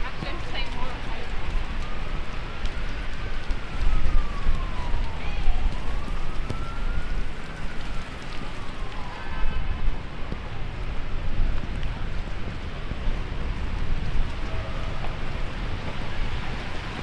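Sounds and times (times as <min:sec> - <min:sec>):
heavy rain: 0:00.0 - 0:17.0
wailing siren: 0:00.0 - 0:17.0
wind: 0:00.0 - 0:17.0.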